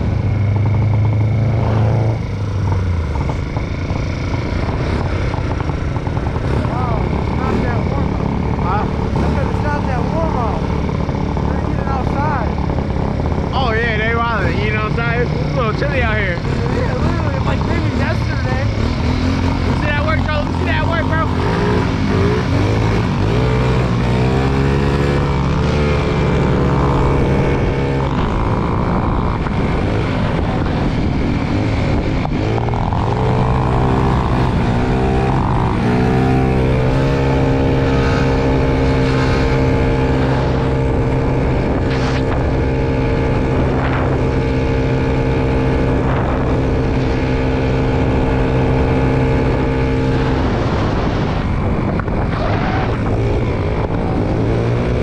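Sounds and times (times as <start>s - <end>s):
small motorbike engine: 0.0s - 55.0s
wind rushing over microphone: 0.0s - 55.0s.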